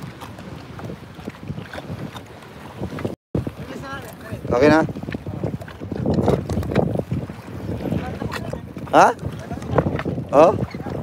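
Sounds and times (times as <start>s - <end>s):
water slapping against hull: 0.0s - 11.0s
wind gusting on microphone: 0.0s - 11.0s.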